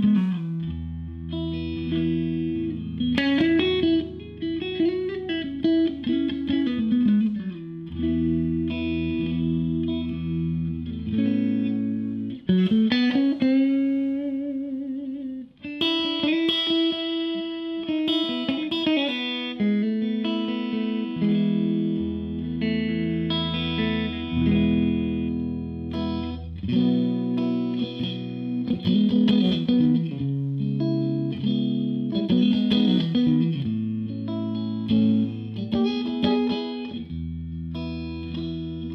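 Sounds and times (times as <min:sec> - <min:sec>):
electric guitar playing: 0:00.0 - 0:38.9.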